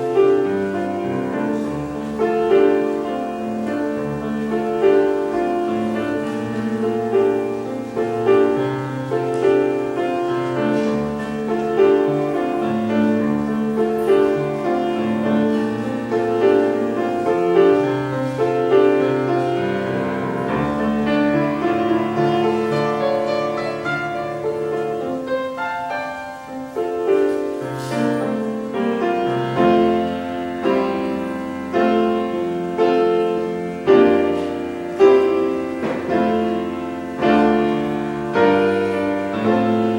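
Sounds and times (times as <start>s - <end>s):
slow chordal piano: 0.0s - 39.9s.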